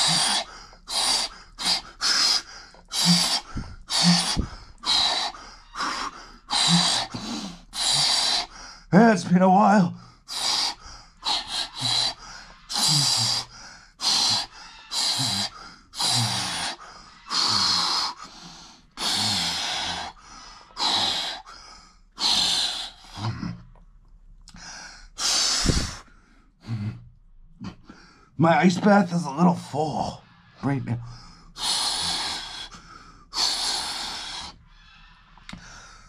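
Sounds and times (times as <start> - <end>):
man breathing hard: 0.0 - 9.0, 9.9 - 23.5, 24.5 - 28.4, 31.0 - 36.0.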